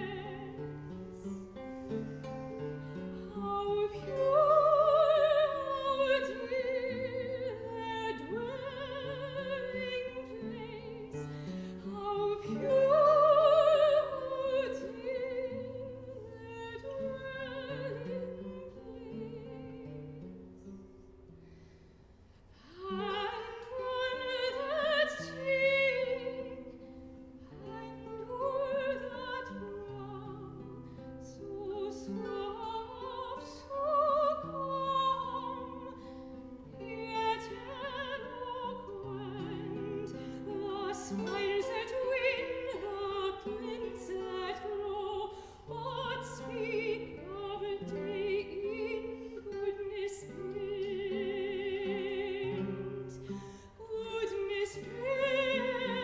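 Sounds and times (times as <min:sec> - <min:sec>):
soprano singing with vibrato: 0:00.0 - 0:20.8, 0:22.6 - 0:56.0
guitar accompaniment: 0:00.0 - 0:56.0.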